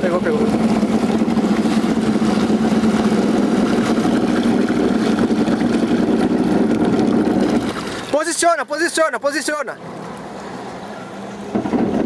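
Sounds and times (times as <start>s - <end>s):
boat engine idling: 0.0s - 12.0s
water and wind noise: 0.0s - 12.0s.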